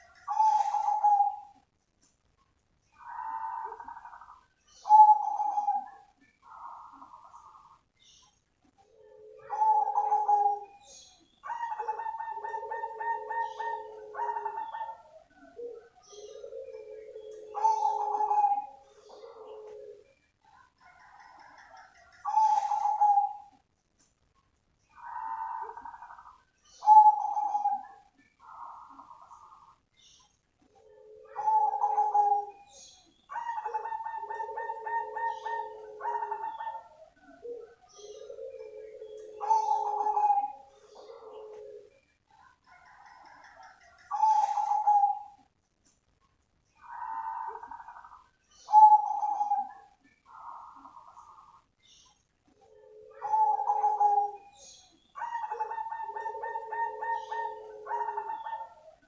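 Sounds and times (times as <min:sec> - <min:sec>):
dove cooing: 0:00.0 - 0:01.6, 0:02.9 - 0:07.8, 0:08.8 - 0:23.6, 0:24.9 - 0:29.8, 0:30.7 - 0:45.5, 0:46.8 - 0:51.6, 0:52.5 - 0:59.0.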